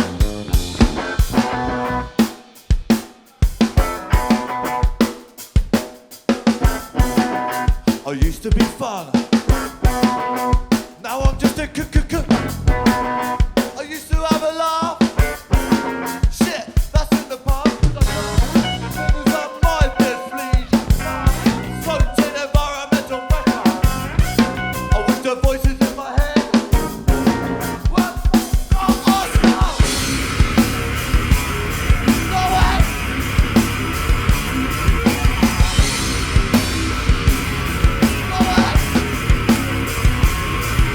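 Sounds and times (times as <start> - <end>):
drum kit kick and snare: 0.0 - 40.9
punk rock band playing: 0.0 - 40.9.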